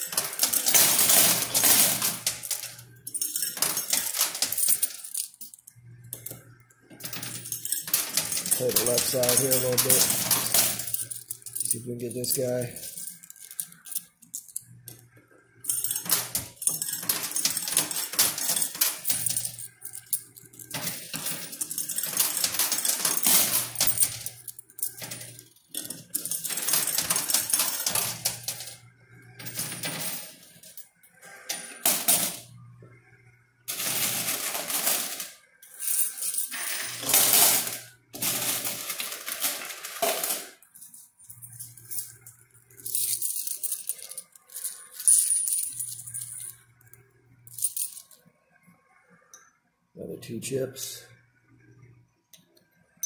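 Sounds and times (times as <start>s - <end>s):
coins clinking and clattering: 0.0s - 32.6s, 33.7s - 48.2s.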